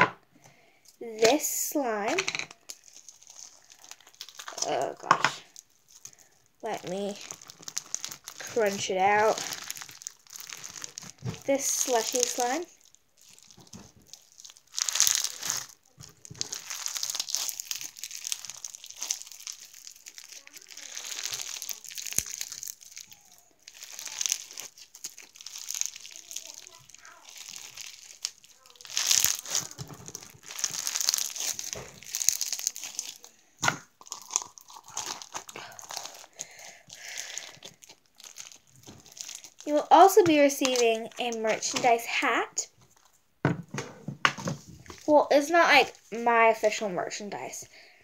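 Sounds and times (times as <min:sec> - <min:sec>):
slime squeezed crackling: 0:01.0 - 0:42.7.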